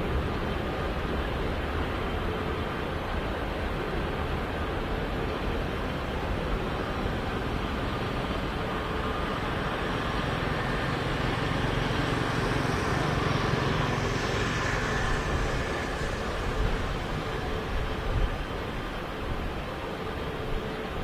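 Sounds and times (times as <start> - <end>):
jet engine rumble with whine: 0.0 - 21.0.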